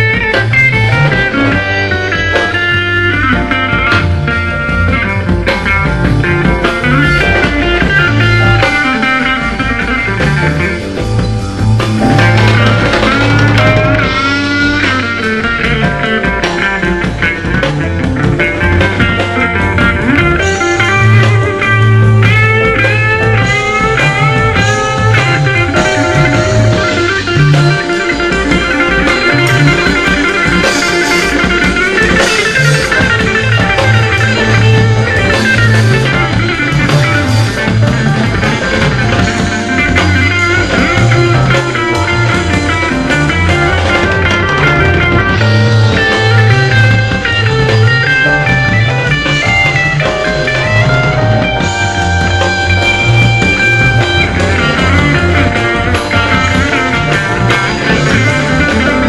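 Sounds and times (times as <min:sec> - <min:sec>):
bass guitar: 0:00.0 - 0:59.0
drums: 0:00.0 - 0:59.0
electric guitar lead runs: 0:00.0 - 0:59.0.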